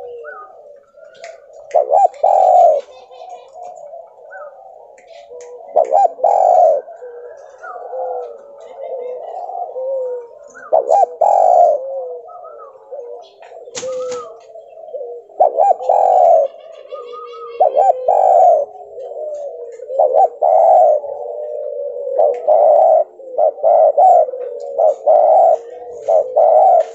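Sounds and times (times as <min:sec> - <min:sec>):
dove cooing: 0:00.0 - 0:26.9
faint background cooing: 0:00.0 - 0:26.9.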